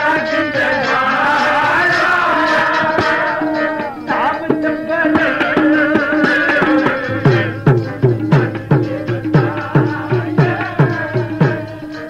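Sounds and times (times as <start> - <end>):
harmonium sustaining tones: 0.0 - 12.0
tabla beat: 0.0 - 12.0.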